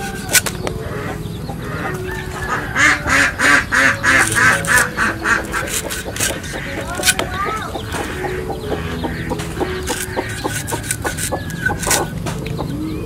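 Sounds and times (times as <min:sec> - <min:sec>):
fowl calling: 0:00.0 - 0:13.0.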